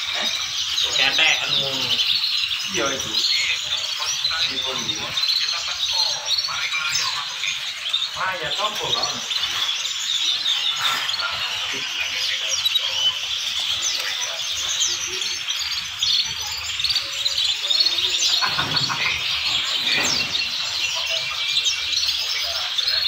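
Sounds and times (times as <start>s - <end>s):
canaries chirping and singing: 0.0s - 23.0s.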